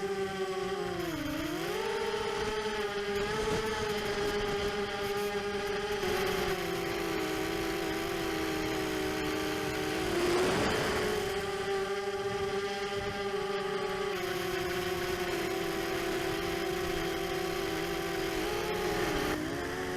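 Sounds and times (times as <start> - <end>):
quadcopter motors whining: 0.0 - 19.9.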